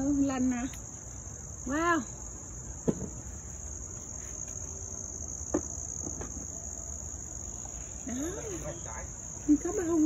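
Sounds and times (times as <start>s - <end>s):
high-pitched insect trill: 0.0s - 10.0s.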